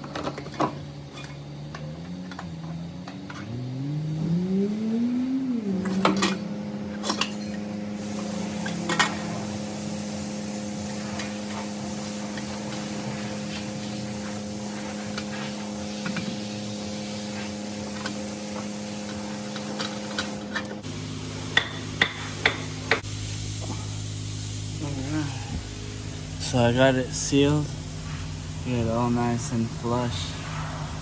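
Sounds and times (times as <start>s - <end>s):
motor hum rising in pitch: 0.8s - 29.8s.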